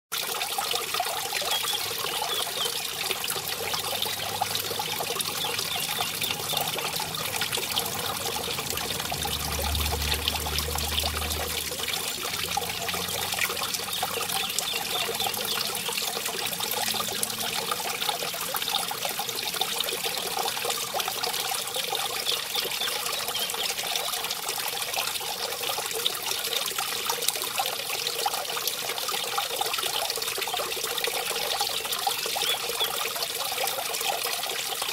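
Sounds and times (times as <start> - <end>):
stream over small waterfall: 0.1 - 34.9.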